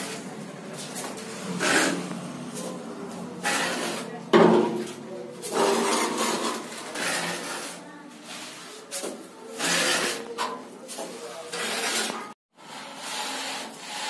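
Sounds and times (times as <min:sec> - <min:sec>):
trowel scraping and tapping plaster: 0:00.0 - 0:14.0.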